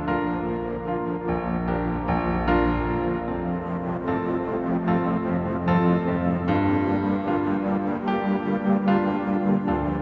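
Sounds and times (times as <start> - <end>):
calm slow music: 0.0 - 10.0.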